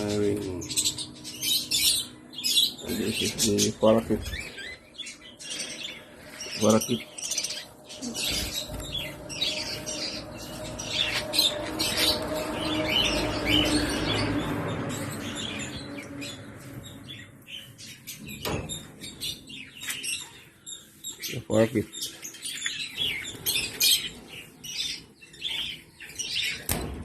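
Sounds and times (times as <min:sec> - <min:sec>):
parakeets chirping and chattering: 0:00.0 - 0:27.0.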